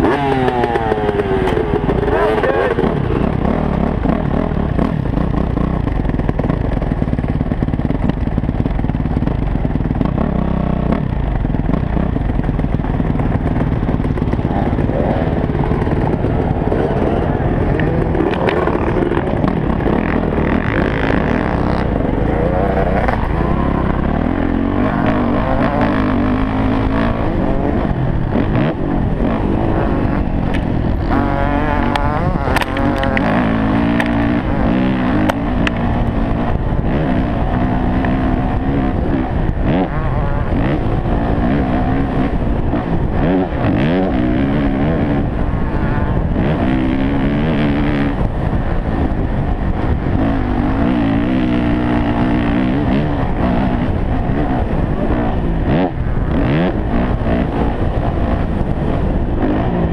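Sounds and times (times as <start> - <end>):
dirt bike engine revving: 0.0 - 59.9
wind noise on microphone: 0.0 - 59.9.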